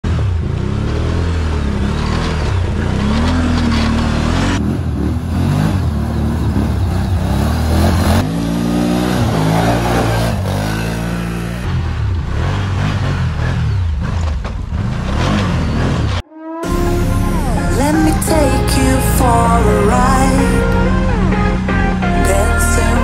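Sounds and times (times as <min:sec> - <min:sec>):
atv engines revving: 0:00.0 - 0:23.0.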